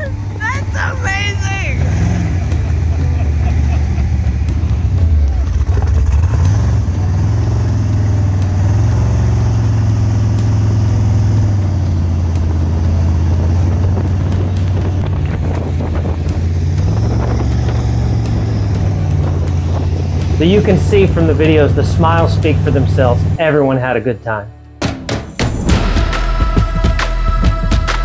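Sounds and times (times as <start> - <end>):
boat engine running hard: 0.0 - 23.4.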